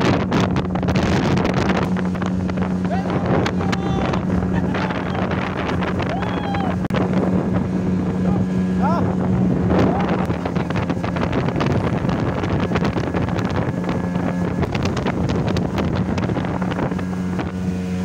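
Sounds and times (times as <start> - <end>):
outboard motor droning: 0.0 - 18.0
water rushing past hull: 0.0 - 18.0
wind buffeting microphone: 0.0 - 18.0.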